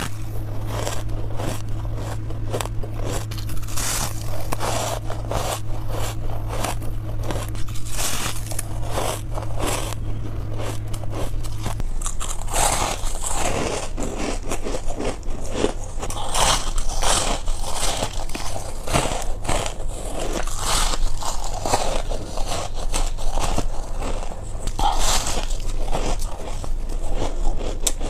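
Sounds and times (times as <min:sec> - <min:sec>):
ice being chewed: 0:00.0 - 0:28.0
low steady hum: 0:00.0 - 0:28.0.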